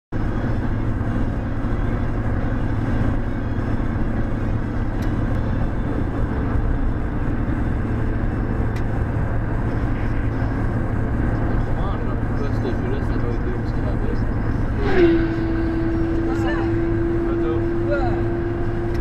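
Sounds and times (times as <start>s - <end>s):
car engine: 0.1s - 19.0s
tyres on road: 0.1s - 19.0s
low hum: 0.2s - 19.0s.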